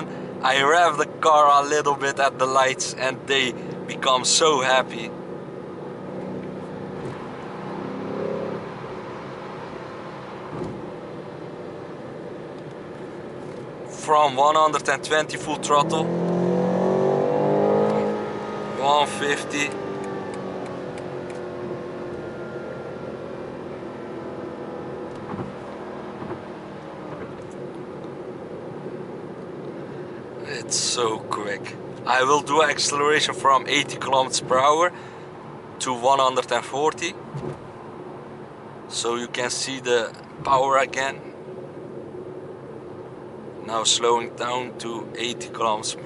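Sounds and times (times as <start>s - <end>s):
car engine running: 0.0s - 46.0s
road noise: 0.0s - 46.0s.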